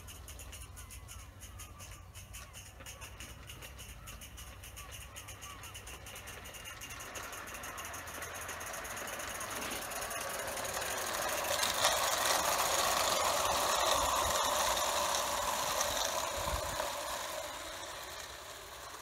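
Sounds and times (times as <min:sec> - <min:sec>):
steam locomotive exhaust: 0:00.0 - 0:19.0
train wheels clattering on rails: 0:00.0 - 0:19.0.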